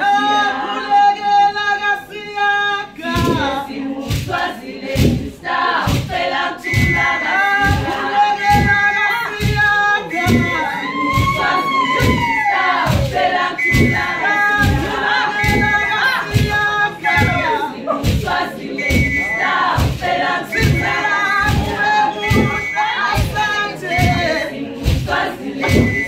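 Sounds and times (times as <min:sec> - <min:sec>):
women singing together: 0:00.0 - 0:26.0
thumping beat: 0:03.1 - 0:26.0.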